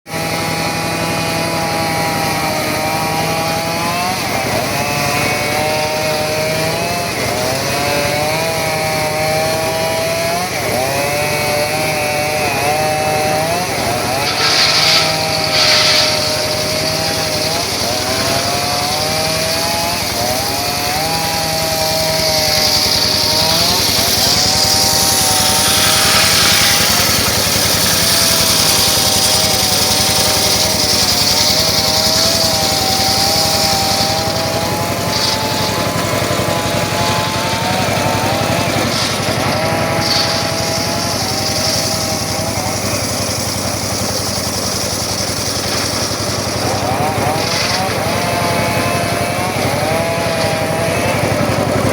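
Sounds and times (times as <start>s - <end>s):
circular saw cutting wood: 0.1s - 51.9s.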